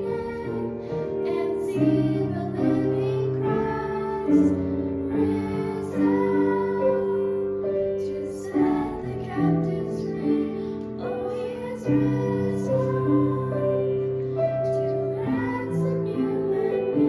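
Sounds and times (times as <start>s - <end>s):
piano accompaniment: 0.0s - 17.0s
women and children singing: 0.0s - 17.0s.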